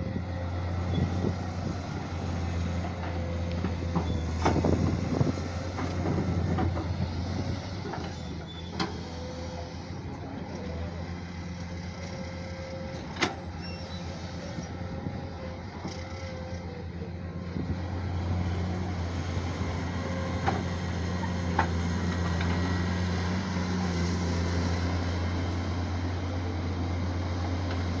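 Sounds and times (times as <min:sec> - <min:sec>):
digger diesel engine running: 0:00.0 - 0:28.0.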